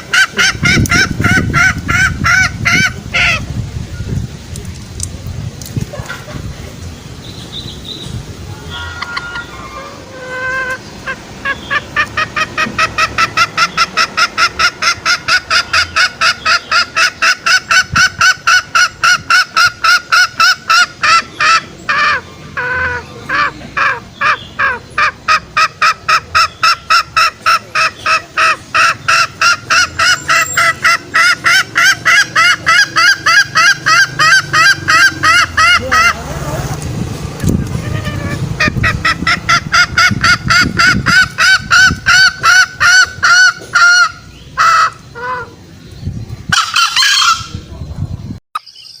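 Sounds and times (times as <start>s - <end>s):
junglefowl clucking calls: 0.0s - 3.5s, 8.5s - 36.8s, 37.4s - 45.7s, 46.5s - 47.8s.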